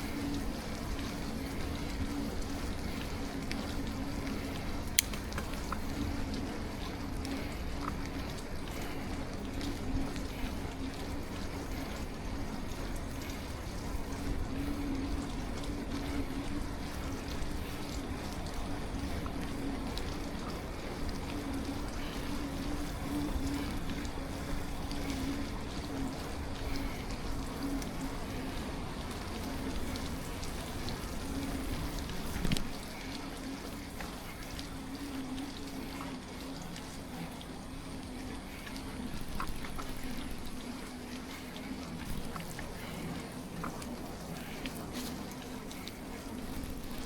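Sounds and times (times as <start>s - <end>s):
wet bicycle tyres hissing: 0.0s - 47.0s.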